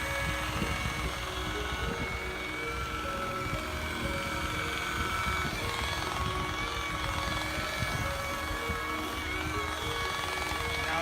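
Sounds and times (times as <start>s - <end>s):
background music: 0.0s - 11.0s
rotary buffer running: 0.0s - 11.0s.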